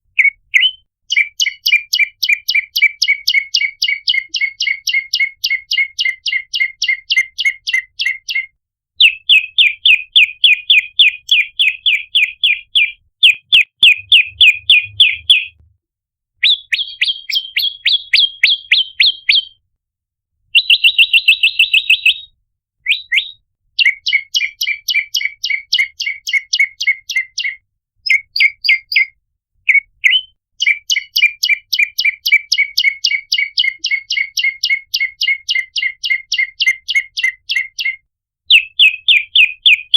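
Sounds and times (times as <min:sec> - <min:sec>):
small bird rapid chip calls: 0:00.1 - 0:15.6, 0:16.4 - 0:19.6, 0:22.9 - 0:39.9.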